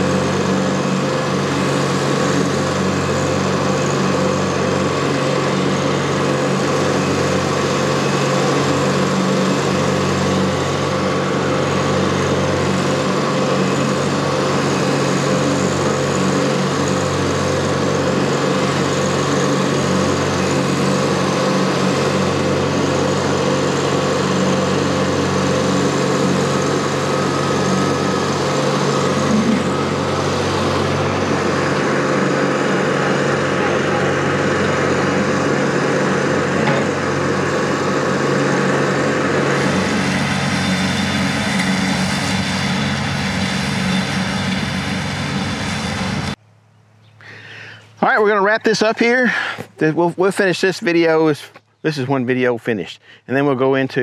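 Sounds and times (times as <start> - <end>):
mower cutting grass: 0.0 - 51.4
tractor diesel engine running: 0.0 - 53.9.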